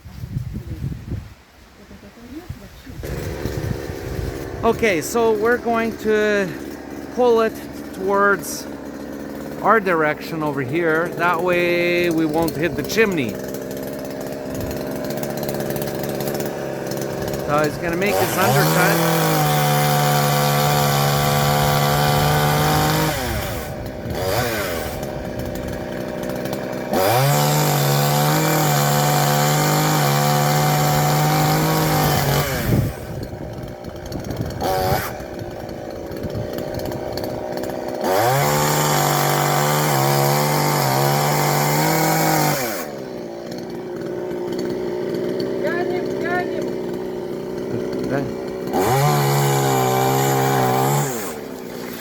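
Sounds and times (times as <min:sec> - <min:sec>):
chainsaw cutting wood: 0:03.0 - 0:52.0.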